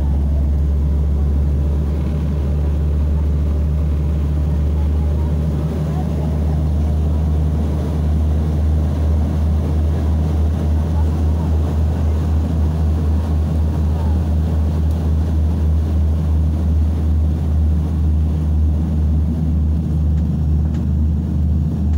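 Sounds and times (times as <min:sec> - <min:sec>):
propeller engines droning in cabin: 0:00.0 - 0:21.9.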